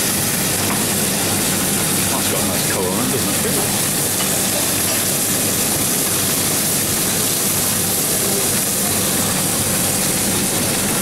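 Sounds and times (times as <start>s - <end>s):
fish sizzling in frying pan: 0.0s - 11.0s.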